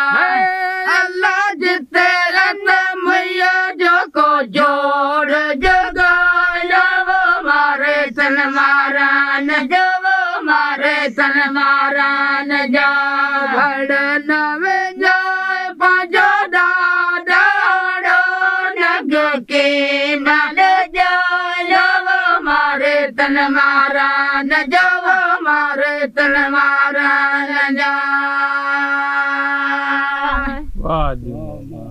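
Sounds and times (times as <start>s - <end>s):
women singing a folk song: 0.0s - 30.8s.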